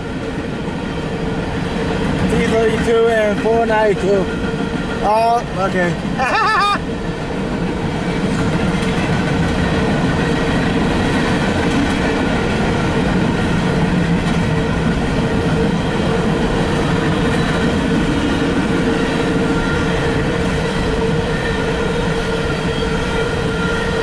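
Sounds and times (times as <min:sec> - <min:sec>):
train wheels rumbling and rattling: 0:00.0 - 0:24.0.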